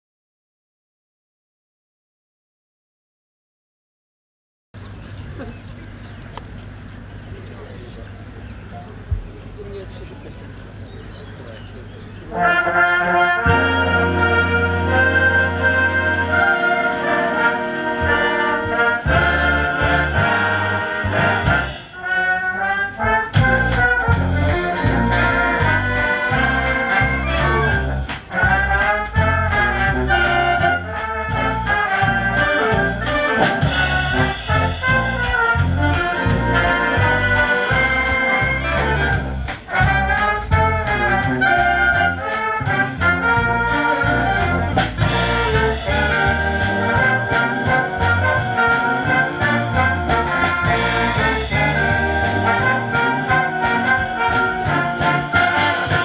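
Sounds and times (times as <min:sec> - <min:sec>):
wind band playing lively music: 0:08.9 - 0:56.0.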